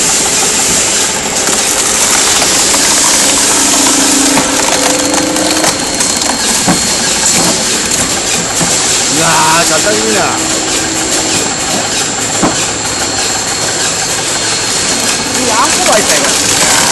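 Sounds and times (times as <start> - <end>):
log splitter grinding: 0.0 - 16.9.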